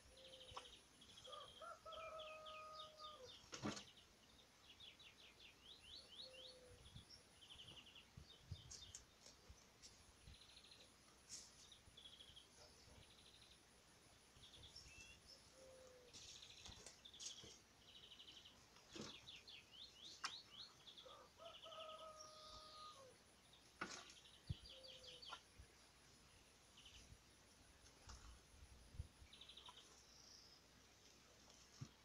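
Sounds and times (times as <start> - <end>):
faint songbirds singing: 0.0 - 32.0.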